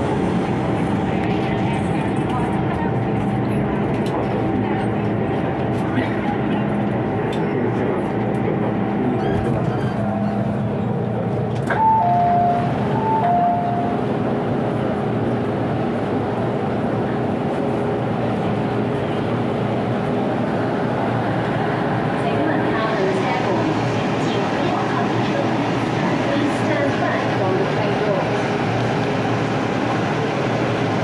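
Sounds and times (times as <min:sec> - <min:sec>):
train cabin rumble: 0:00.0 - 0:31.0.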